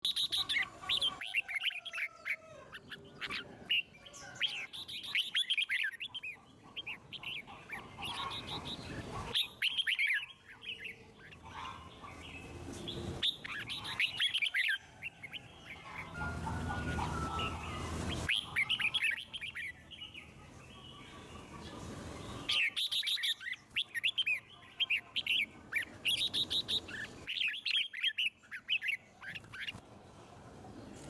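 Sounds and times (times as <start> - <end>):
bulbul singing: 3.3 - 29.8.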